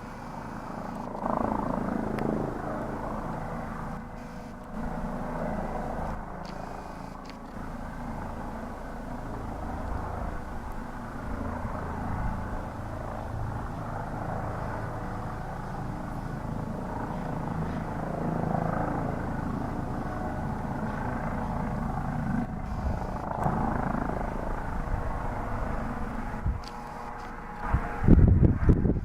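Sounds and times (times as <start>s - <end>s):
helicopter rotor and engine: 0.0s - 29.0s.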